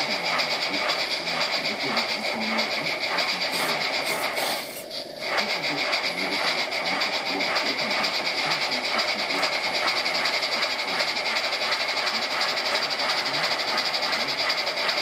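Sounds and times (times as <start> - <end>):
steam exhaust chuffs: 0.0 - 15.0
steam hiss: 0.0 - 15.0.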